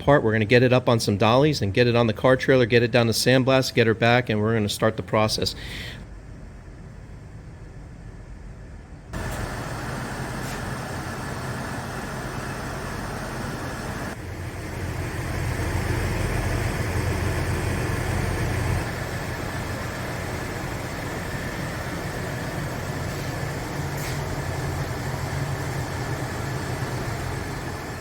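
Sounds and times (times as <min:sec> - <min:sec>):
vehicle engine rumbling: 0:05.4 - 0:28.0.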